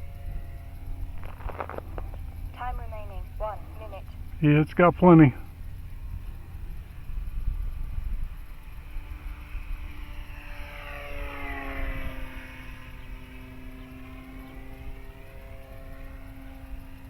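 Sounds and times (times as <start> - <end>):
wind rumble on microphone: 0.0 - 4.4, 5.5 - 17.0
model plane motor whine: 0.0 - 17.0.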